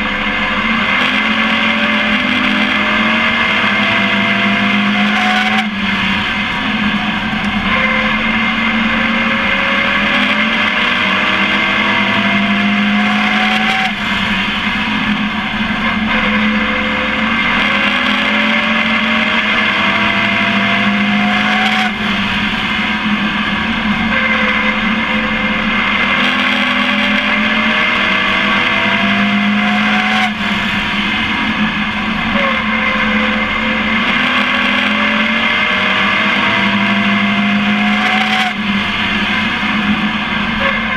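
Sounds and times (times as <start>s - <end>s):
race truck engine revving: 0.0s - 40.9s.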